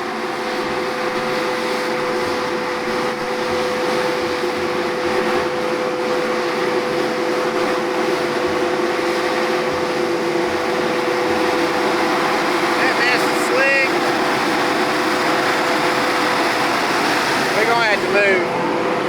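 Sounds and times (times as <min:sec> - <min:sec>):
diesel engine running under load: 0:00.0 - 0:19.0
constant whine: 0:00.1 - 0:19.0.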